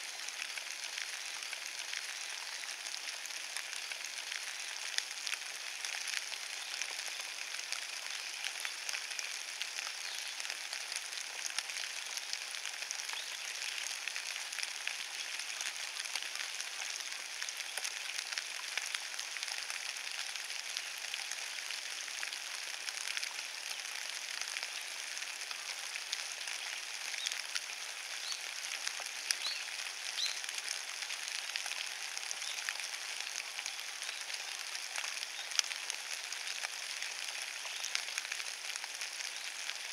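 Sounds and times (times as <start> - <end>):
rain falling on wet leaves: 0.0 - 39.9.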